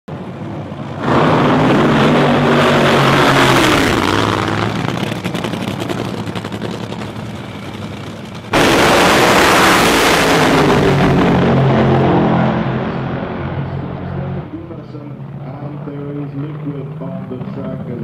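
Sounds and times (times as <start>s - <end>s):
dragster engines revving: 0.2s - 18.0s.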